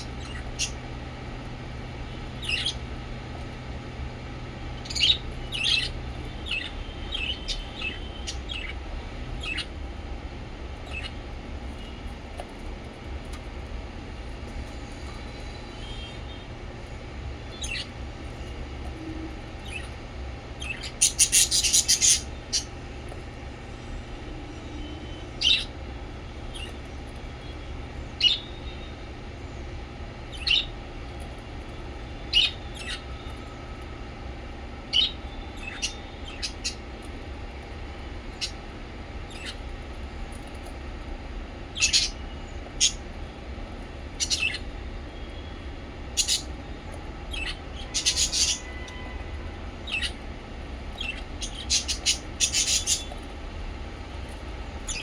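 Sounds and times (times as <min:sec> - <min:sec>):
parrots chirping: 0:00.0 - 0:10.0, 0:10.8 - 0:12.6, 0:17.4 - 0:23.3, 0:24.0 - 0:29.0, 0:30.2 - 0:33.5, 0:34.8 - 0:53.3, 0:53.9 - 0:55.0.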